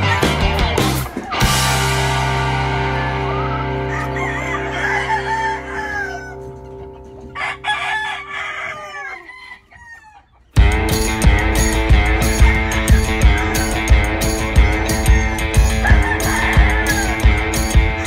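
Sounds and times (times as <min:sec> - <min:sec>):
rock guitar music: 0:00.0 - 0:07.7, 0:10.6 - 0:18.0
rooster crowing and clucking: 0:00.0 - 0:18.0.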